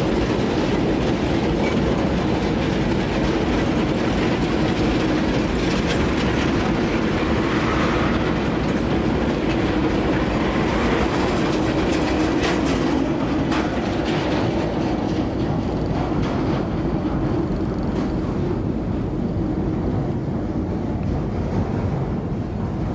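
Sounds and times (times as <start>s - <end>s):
train wheels clattering over rail joints: 0.0s - 22.9s.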